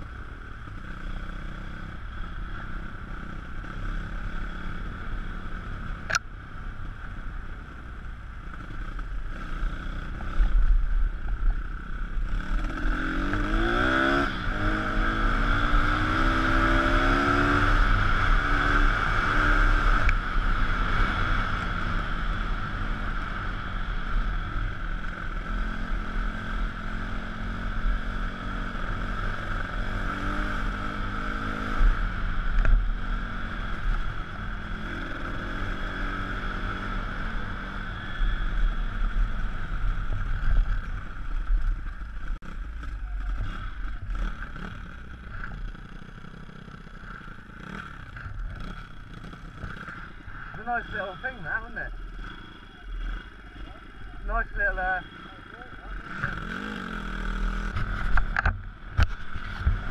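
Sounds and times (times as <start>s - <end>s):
motorbike engine revving: 8.6s - 59.9s.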